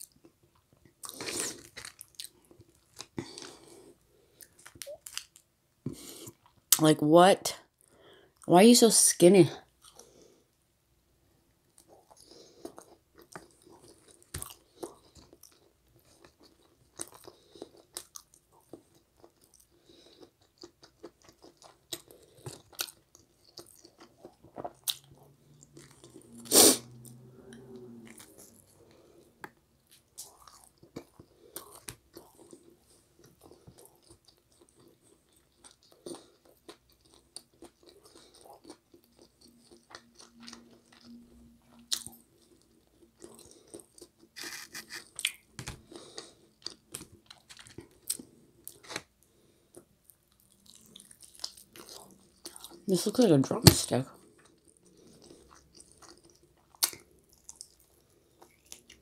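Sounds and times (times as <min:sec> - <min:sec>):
chewing and biting pizza: 0:00.0 - 0:06.6, 0:11.7 - 0:52.8, 0:54.2 - 0:59.0.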